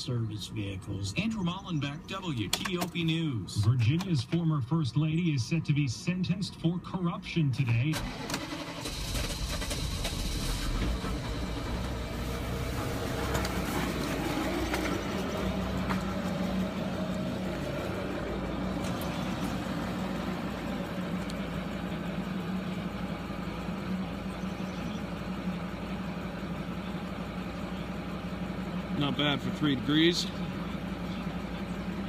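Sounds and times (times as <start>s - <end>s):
diesel engine starting and idling: 0.0s - 32.0s.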